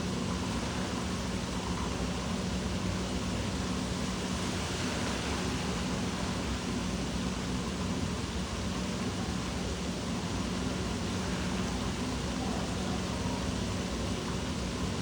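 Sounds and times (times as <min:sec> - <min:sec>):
low constant hum: 0:00.0 - 0:15.0.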